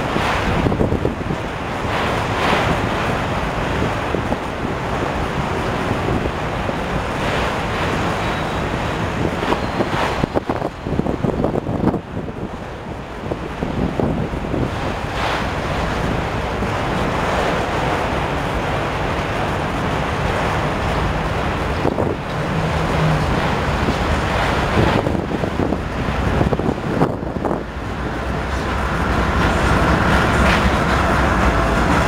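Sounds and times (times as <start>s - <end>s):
diesel locomotive engine drone: 0.0s - 32.0s
freight train rumble and rattle: 0.0s - 32.0s
wind buffeting microphone: 0.0s - 32.0s.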